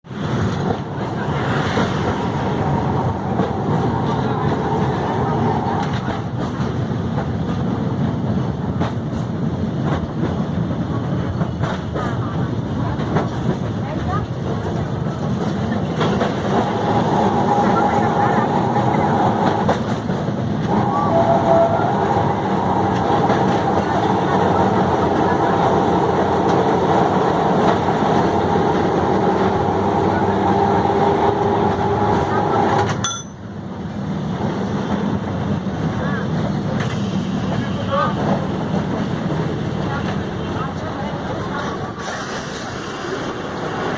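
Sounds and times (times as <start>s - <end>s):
tram rumbling along rails: 0.0s - 43.9s.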